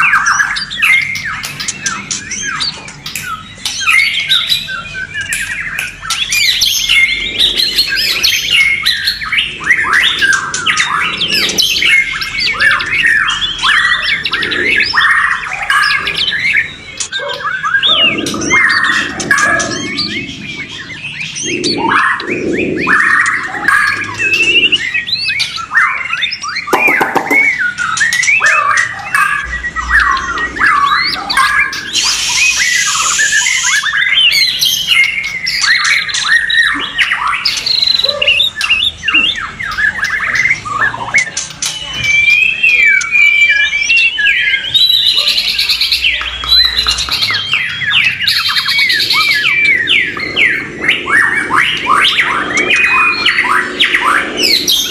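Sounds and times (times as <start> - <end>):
birds singing: 0.0 - 54.9.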